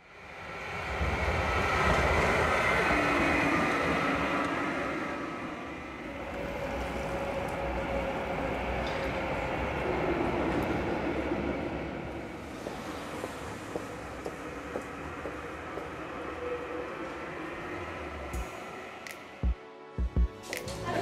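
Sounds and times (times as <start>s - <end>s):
tram rumbling on rails: 0.1s - 21.0s.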